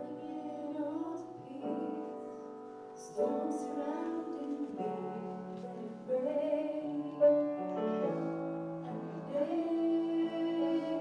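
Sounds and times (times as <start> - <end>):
person singing worship song: 0.0 - 11.0
piano accompaniment: 0.0 - 11.0.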